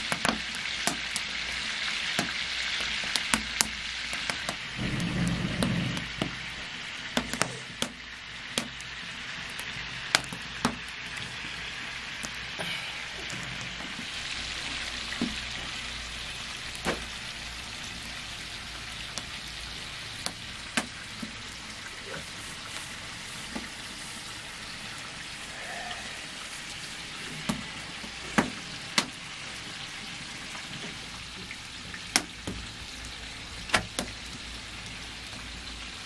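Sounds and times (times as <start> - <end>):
food sizzling in oil: 0.0 - 36.0
oil popping: 0.0 - 36.0.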